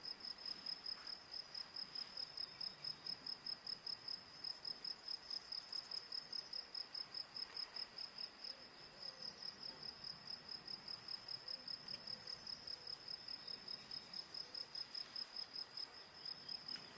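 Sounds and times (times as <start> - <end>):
insect chirping: 0.0 - 16.9.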